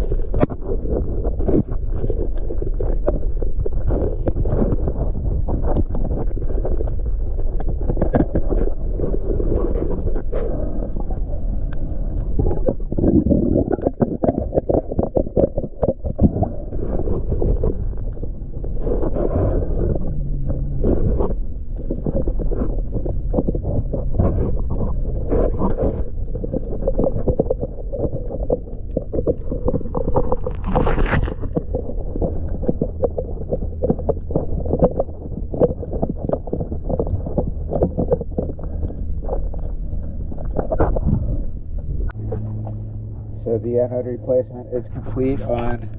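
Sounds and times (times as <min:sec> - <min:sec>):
gurgling bubbles: 0:00.0 - 0:43.5
low hum: 0:00.0 - 0:45.9
underwater crackling and knocking: 0:00.0 - 0:45.9.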